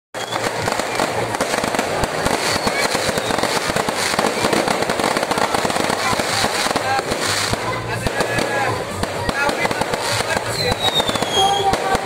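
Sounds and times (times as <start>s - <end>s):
fireworks bangs and crackles: 0.1s - 12.0s.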